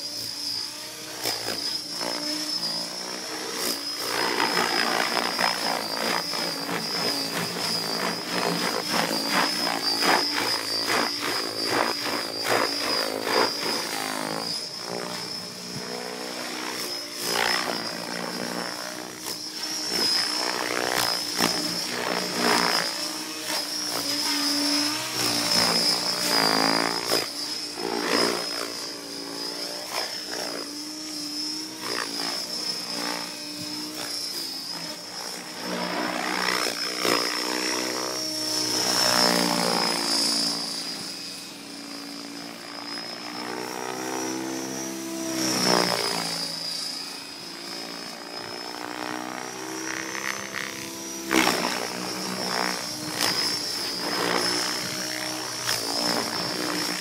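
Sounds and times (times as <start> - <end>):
helicopter rotor: 0.0 - 57.0
model helicopter whine: 0.0 - 57.0.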